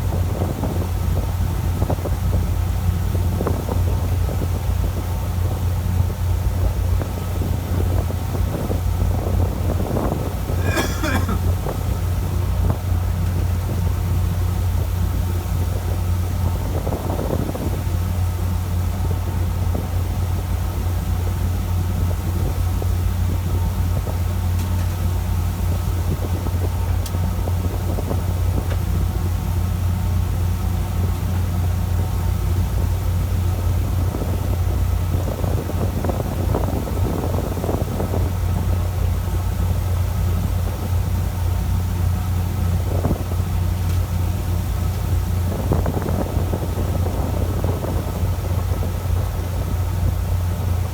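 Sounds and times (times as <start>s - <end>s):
boat engine droning: 0.0s - 50.9s.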